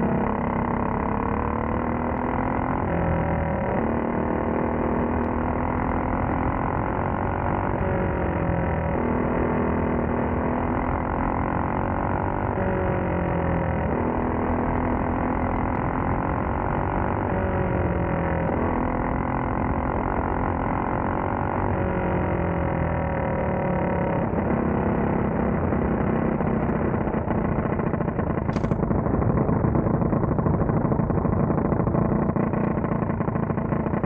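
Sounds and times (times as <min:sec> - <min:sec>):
kart engine revving: 0:00.0 - 0:34.0.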